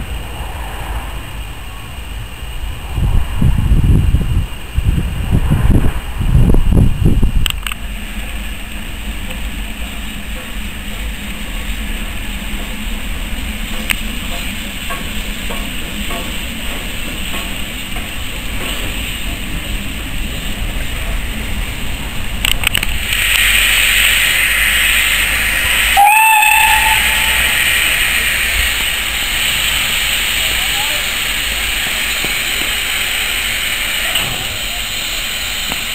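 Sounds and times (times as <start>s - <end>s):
loud hiss of escaping steam: 0.0s - 35.9s
steam locomotive low rumble: 0.0s - 35.9s.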